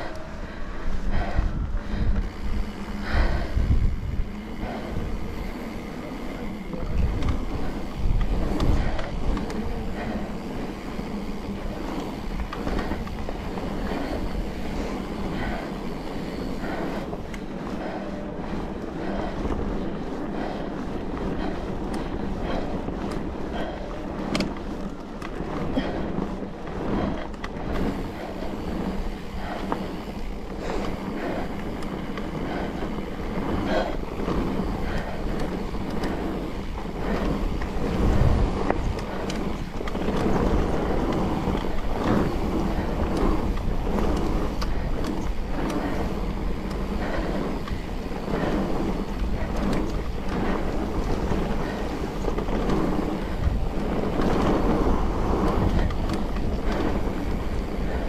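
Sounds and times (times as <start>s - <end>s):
bike tyres rolling on dirt: 0.0s - 58.0s
wind on microphone: 0.0s - 58.0s.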